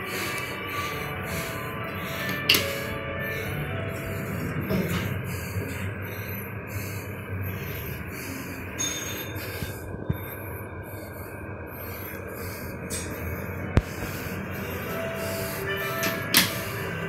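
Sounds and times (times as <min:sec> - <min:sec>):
heavy breathing: 0:00.0 - 0:17.0
lift car rumble and hum: 0:00.0 - 0:17.0.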